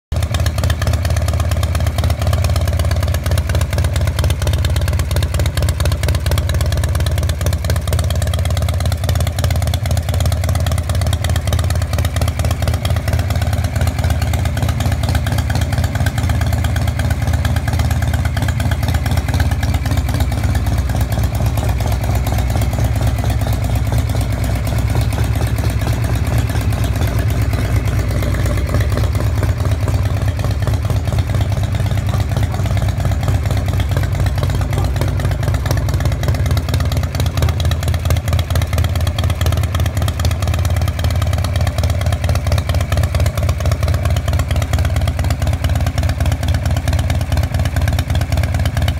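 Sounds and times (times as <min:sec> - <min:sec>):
motorcycle engine running: 0:00.1 - 0:48.9.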